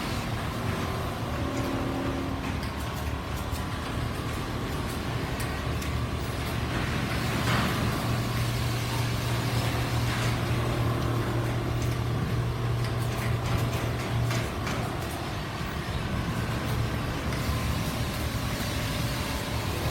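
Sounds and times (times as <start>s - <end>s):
quilting machines humming: 0.0s - 19.9s.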